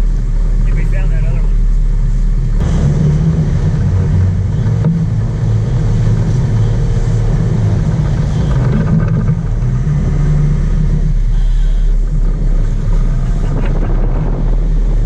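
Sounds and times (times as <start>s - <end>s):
boat engines droning: 0.0s - 15.0s
water rushing in wake: 0.0s - 15.0s.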